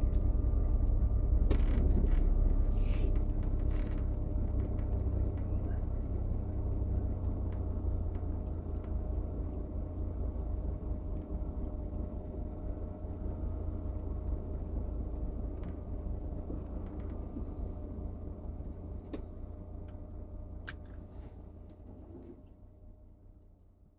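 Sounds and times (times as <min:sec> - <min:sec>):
vehicle rumble from inside cabin: 0:00.0 - 0:23.9.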